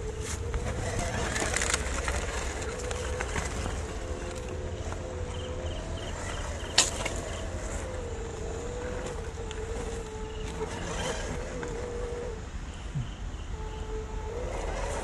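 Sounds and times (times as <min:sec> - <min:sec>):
toy car electric motor whining: 0:00.0 - 0:12.5, 0:13.5 - 0:15.0.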